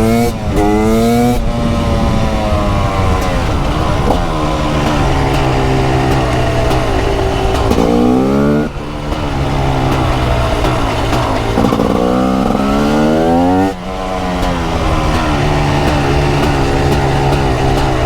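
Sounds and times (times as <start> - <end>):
two-stroke engine accelerating: 0.0 - 18.0.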